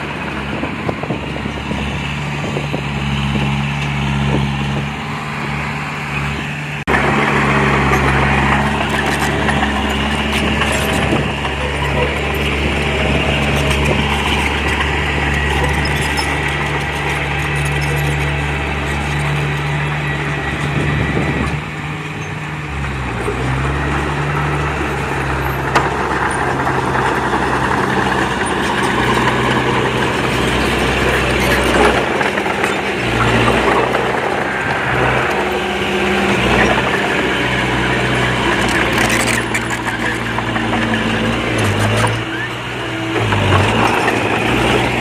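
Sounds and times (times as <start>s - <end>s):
diesel engine under load: 0.0s - 45.0s
rough mechanical noise: 0.0s - 45.0s.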